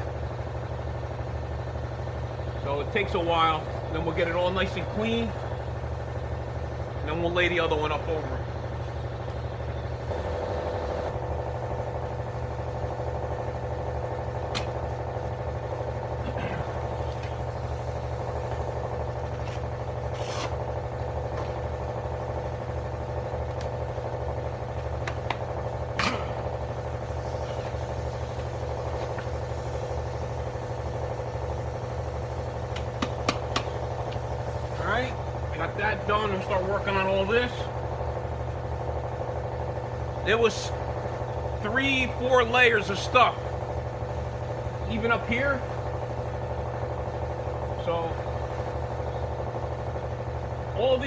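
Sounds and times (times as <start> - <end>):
motor humming: 0.0 - 51.0.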